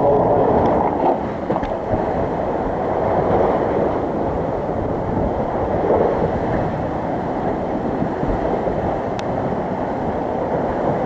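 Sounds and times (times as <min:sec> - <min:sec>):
waves splashing onto pavement: 0:00.0 - 0:11.0
wind buffeting microphone: 0:00.0 - 0:11.0.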